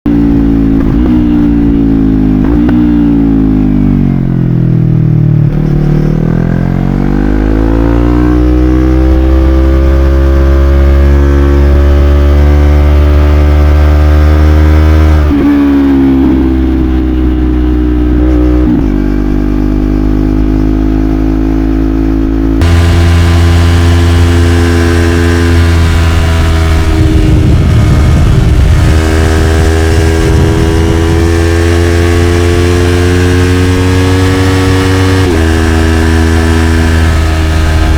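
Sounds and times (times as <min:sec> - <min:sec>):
motorcycle engine revving: 0:00.1 - 0:37.9.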